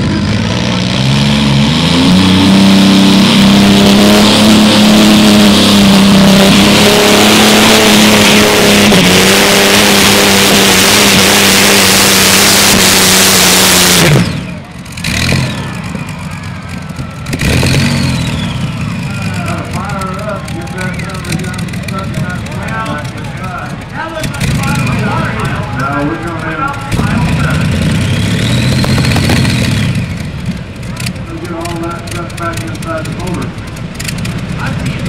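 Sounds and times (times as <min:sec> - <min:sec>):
tractor engine revving loudly: 0:00.0 - 0:35.0.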